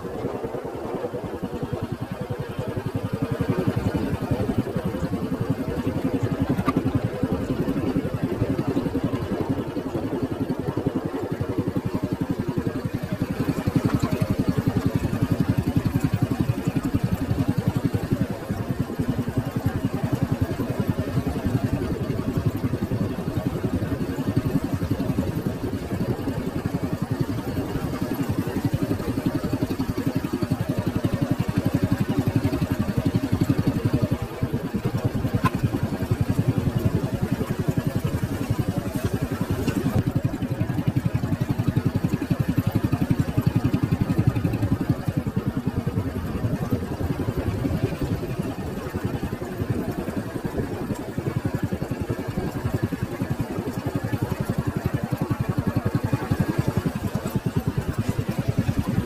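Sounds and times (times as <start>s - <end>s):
small engine pulsing: 0.0s - 59.0s.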